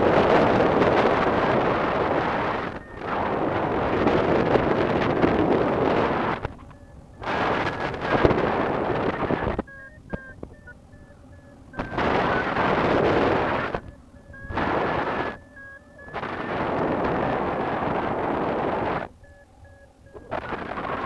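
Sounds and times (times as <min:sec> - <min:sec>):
variometer high beeps: 0:00.0 - 0:21.0
wind buffeting microphone: 0:00.0 - 0:21.0.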